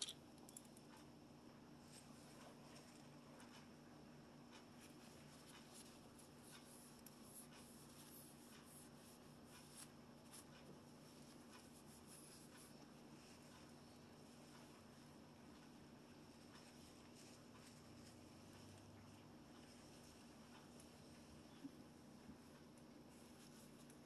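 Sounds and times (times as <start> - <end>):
faint clicks and scratches: 0.0 - 24.0
low steady hum: 0.0 - 24.0.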